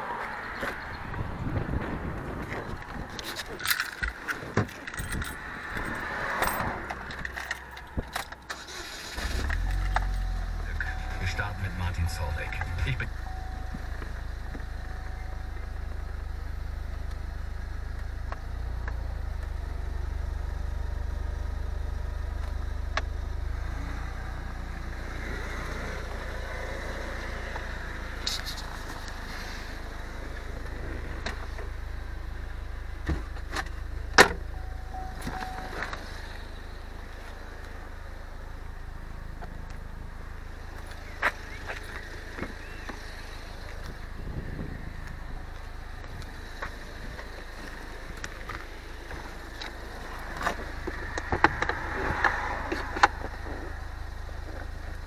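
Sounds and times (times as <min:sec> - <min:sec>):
car engine idling: 0:00.4 - 0:55.0.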